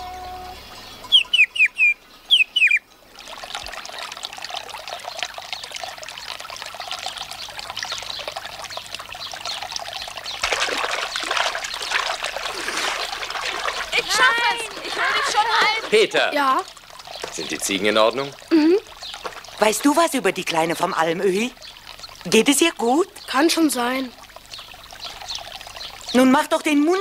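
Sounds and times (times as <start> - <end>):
bird chirping: 0.0 - 2.9, 7.0 - 26.4
water splashing from fountain: 1.2 - 27.0.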